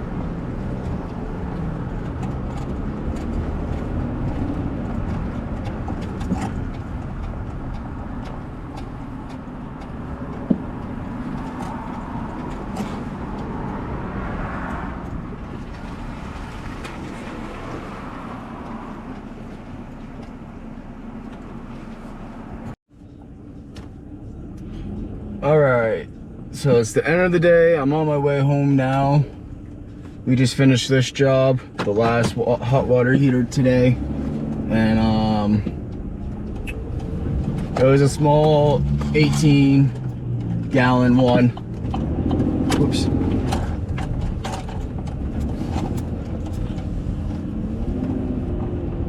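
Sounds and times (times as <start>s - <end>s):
car engine and tyre noise: 0.0s - 49.0s.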